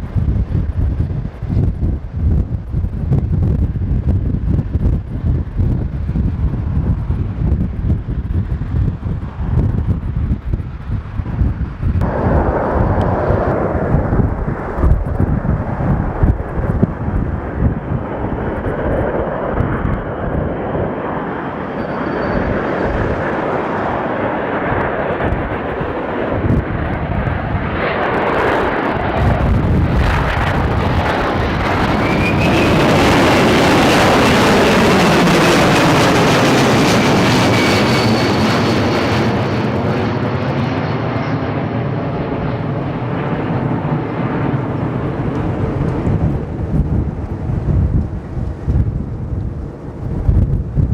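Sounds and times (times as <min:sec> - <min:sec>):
high jet engine whine: 0:00.0 - 0:50.9
jet airliner flying overhead: 0:00.0 - 0:50.9.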